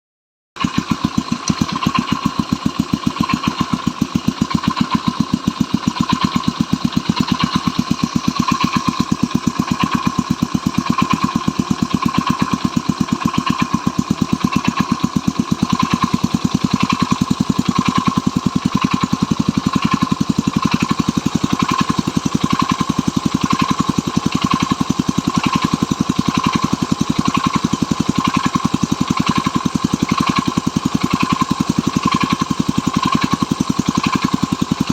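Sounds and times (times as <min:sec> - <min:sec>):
moped engine idling: 0:00.6 - 0:34.9.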